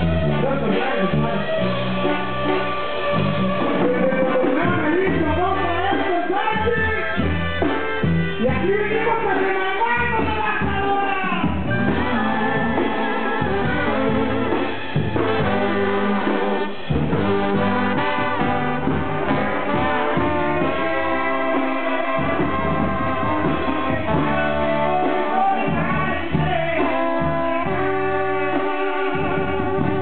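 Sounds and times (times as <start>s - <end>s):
brass band playing: 0.0s - 30.0s.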